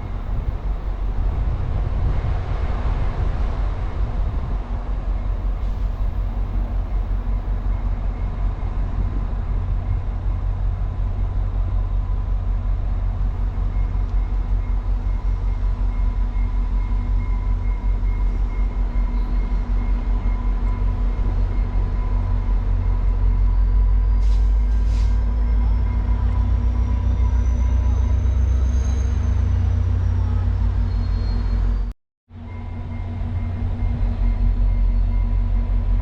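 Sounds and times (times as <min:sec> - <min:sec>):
train rumbling by: 0:00.0 - 0:36.0.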